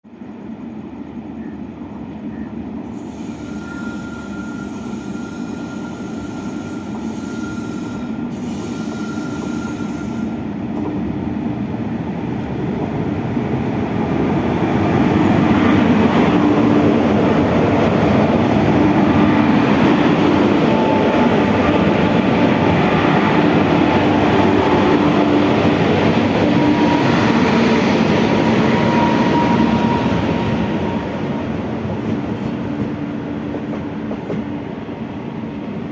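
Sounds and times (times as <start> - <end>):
freight train rolling on rails: 0.1 - 35.9.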